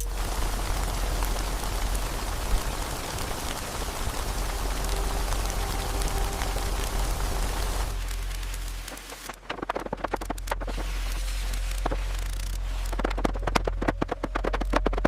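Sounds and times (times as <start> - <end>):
heavy rain hiss: 0.0 - 13.3.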